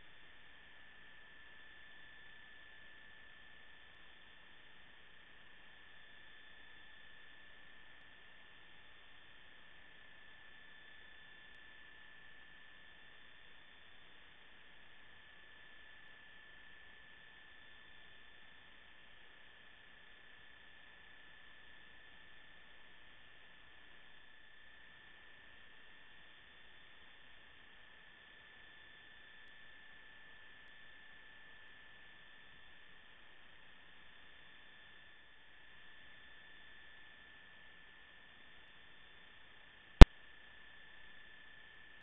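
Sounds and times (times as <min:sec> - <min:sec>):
faint high whine: 0:00.0 - 0:42.0.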